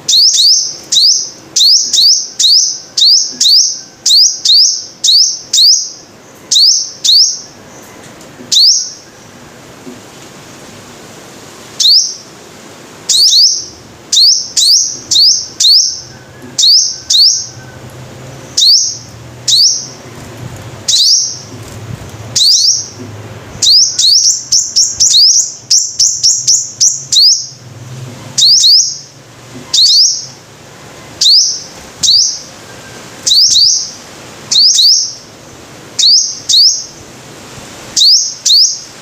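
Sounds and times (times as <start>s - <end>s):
bird high sweeping chirps: 0.0s - 9.5s, 11.7s - 12.4s, 13.0s - 21.7s, 22.3s - 27.7s, 28.3s - 30.4s, 31.0s - 37.1s, 37.9s - 39.0s.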